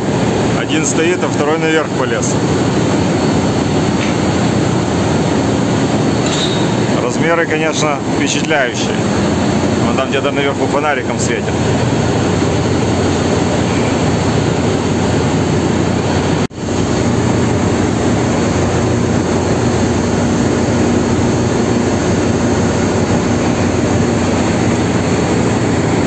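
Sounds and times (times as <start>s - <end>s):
engine room machinery drone: 0.0s - 26.0s
steady hums: 0.0s - 26.0s.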